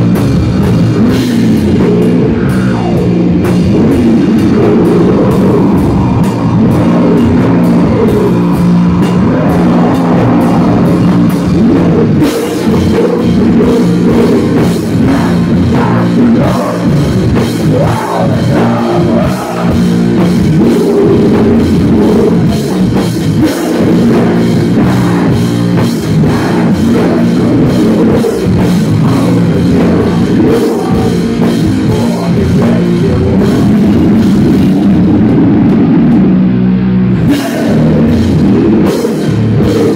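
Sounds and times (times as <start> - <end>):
loud live rock band: 0.0 - 39.9.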